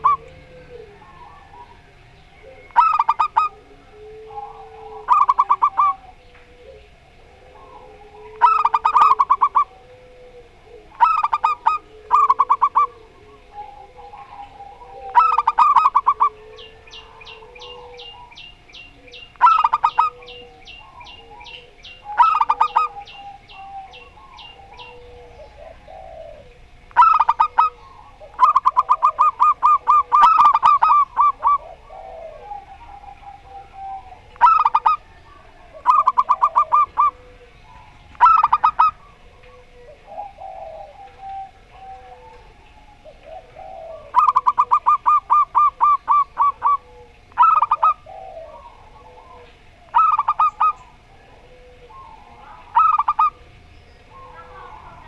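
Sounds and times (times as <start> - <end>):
doves staccato cooing: 0.0 - 55.0
soft low dove coos: 0.0 - 55.0.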